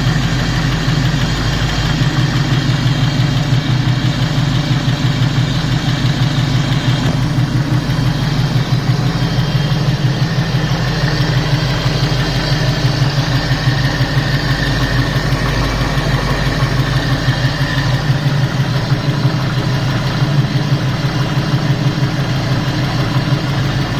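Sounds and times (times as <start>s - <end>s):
car engine idling: 0.0s - 23.9s
engine ticking: 0.0s - 23.9s.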